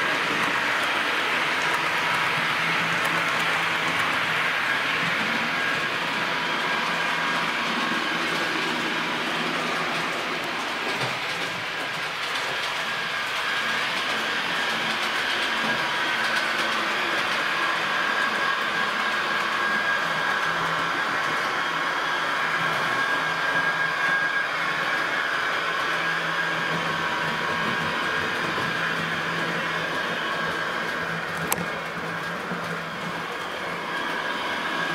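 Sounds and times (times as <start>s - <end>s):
model train motor whine: 0.0s - 34.9s
wheels rolling on rails: 0.0s - 34.9s.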